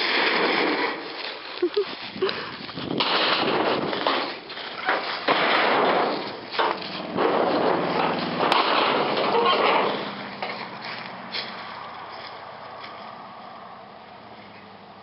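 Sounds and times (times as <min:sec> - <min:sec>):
shed cracking and crunching apart: 0:00.0 - 0:13.1
engine running low: 0:01.0 - 0:15.0.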